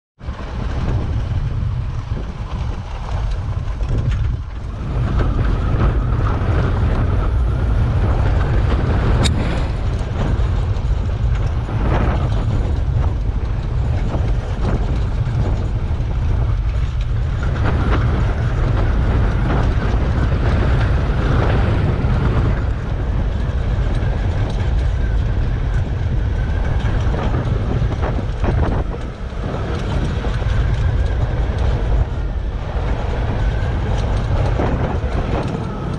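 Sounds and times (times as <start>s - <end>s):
low rumble: 0.2s - 35.9s
vehicle chassis creaking and rattling: 0.2s - 35.9s
transmission whine: 3.2s - 35.9s.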